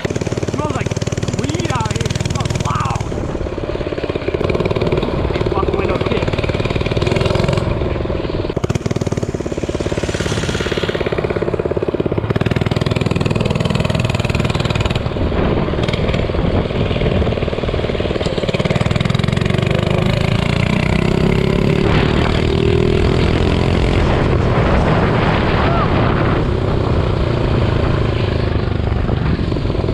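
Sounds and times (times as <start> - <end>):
minibike engine running: 0.0 - 29.9.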